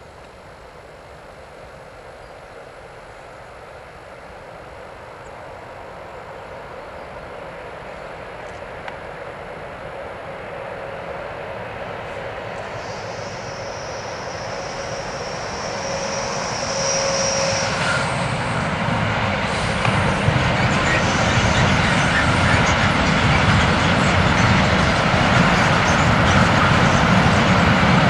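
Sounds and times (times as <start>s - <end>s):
locomotive high whine: 0.0s - 28.0s
train wheels rumbling on rail: 3.6s - 28.0s.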